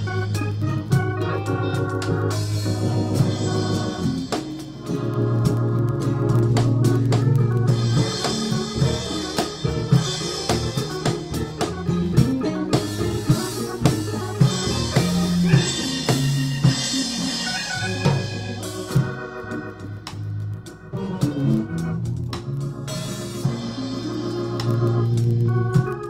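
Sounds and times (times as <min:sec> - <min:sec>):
drum kit: 0:00.0 - 0:26.0
electric bass: 0:00.0 - 0:26.0
electric guitar: 0:00.0 - 0:26.0
organ: 0:00.0 - 0:26.0.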